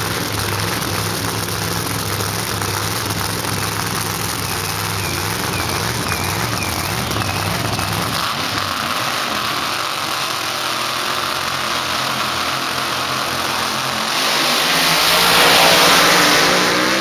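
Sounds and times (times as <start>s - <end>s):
drag racing car engines: 0.0s - 17.0s.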